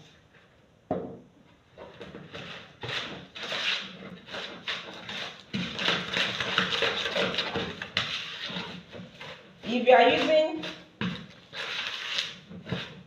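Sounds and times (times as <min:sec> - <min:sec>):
wooden spoon scraping bowl: 0:02.0 - 0:13.0.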